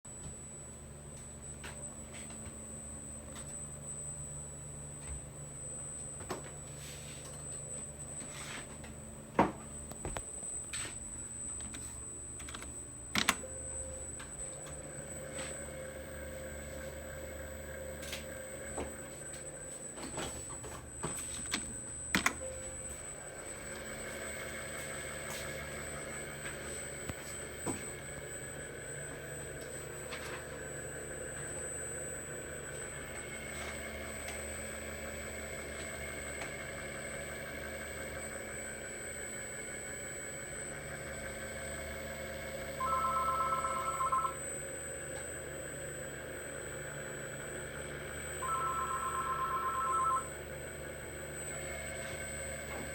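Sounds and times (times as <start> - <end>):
high-pitched motor whine: 0.1 - 52.9
low electrical hum: 0.1 - 52.9.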